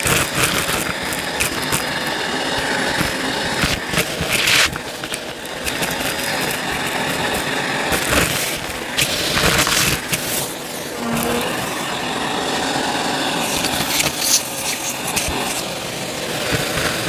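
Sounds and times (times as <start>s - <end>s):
upright vacuum running: 0.0s - 17.0s.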